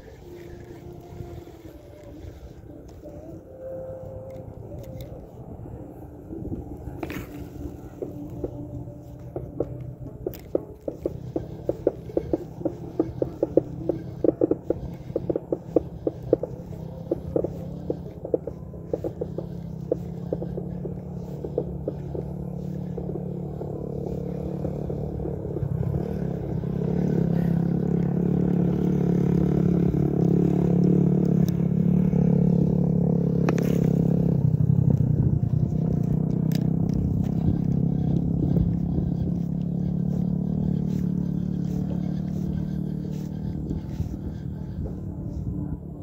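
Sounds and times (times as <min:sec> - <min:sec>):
vehicle engine running: 0:00.0 - 0:46.0.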